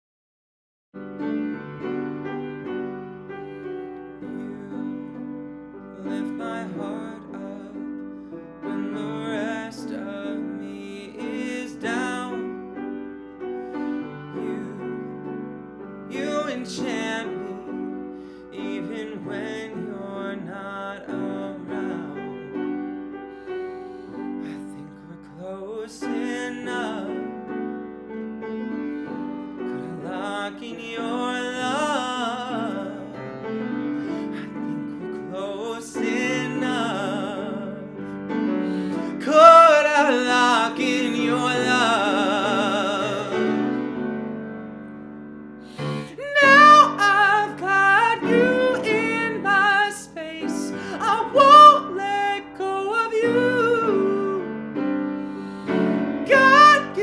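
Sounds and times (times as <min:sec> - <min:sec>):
slow piano chords and melody: 0:01.0 - 0:57.0.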